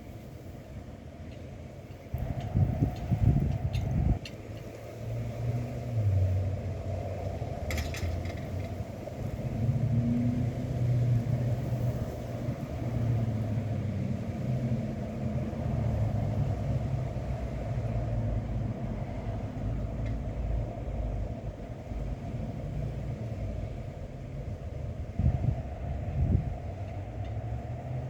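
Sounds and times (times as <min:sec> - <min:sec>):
wind buffeting microphone: 0:02.0 - 0:28.0.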